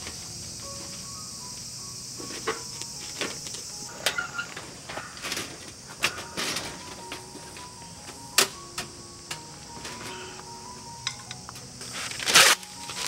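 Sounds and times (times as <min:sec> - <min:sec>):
insects buzzing: 0:00.0 - 0:13.0
soft background music: 0:00.0 - 0:13.0.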